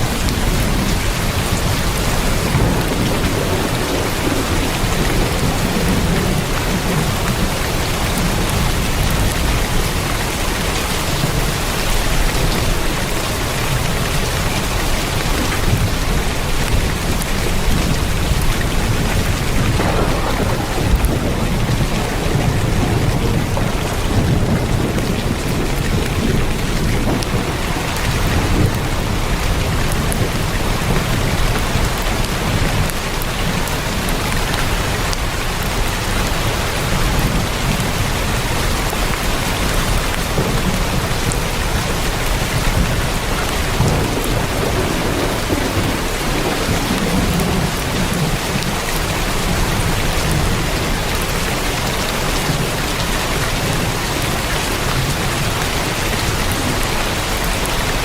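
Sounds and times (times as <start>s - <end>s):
heavy rain on a tin roof: 0.0s - 58.0s.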